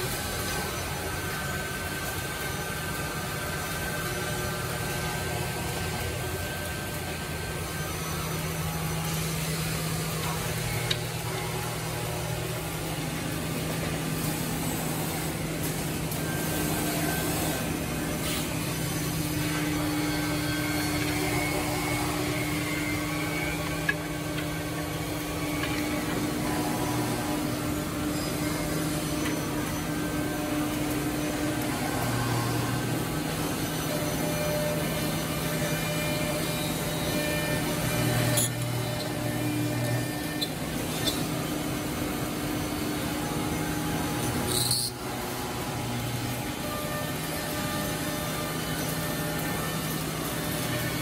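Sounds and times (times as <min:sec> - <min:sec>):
machine whine: 0:00.0 - 0:51.0
drilling machine hum: 0:00.1 - 0:51.0.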